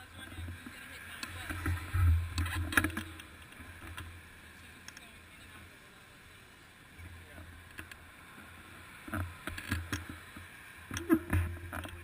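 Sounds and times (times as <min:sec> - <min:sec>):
muffled road traffic rumble: 0:00.0 - 0:12.0.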